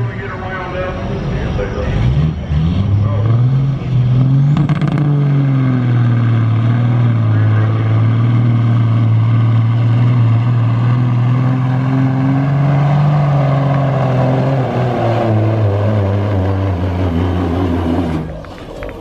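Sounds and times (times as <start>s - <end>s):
diesel truck engine under load: 0.0s - 19.0s.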